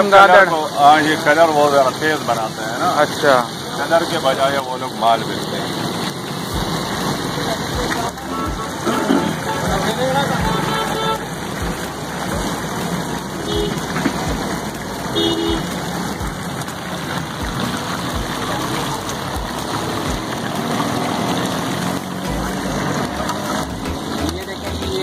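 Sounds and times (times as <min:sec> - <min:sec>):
motor traffic: 0:00.0 - 0:25.0.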